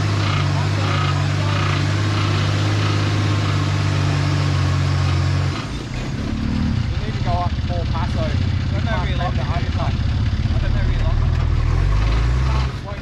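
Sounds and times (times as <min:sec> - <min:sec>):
off-road vehicle engine drone: 0:00.0 - 0:13.0.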